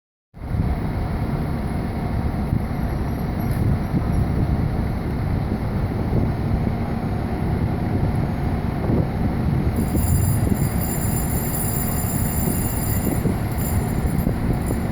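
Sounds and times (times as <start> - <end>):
diesel engine rumbling: 0.4 - 14.9.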